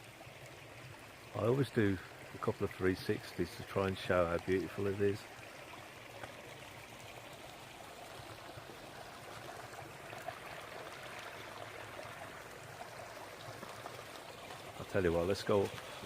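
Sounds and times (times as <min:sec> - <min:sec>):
brook babbling over stones: 0:00.0 - 0:16.0.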